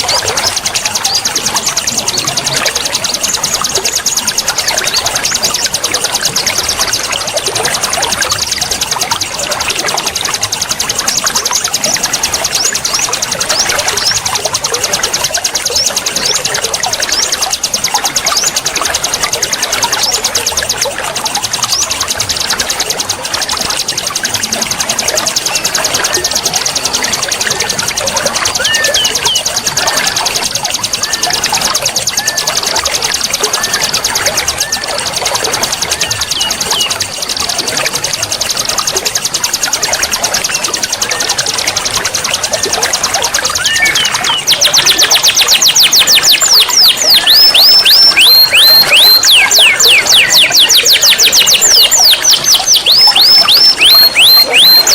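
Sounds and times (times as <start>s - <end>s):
birds singing: 0.0s - 54.9s
flowing water rushing: 0.0s - 54.9s
high-pitched pulsing trill: 0.0s - 54.9s
songbirds chirping: 0.0s - 54.9s.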